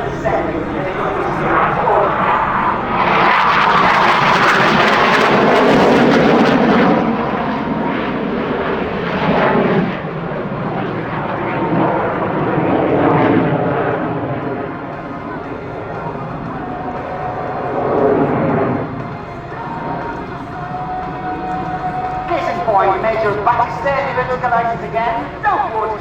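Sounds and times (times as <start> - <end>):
jet flying past: 0.0 - 26.0.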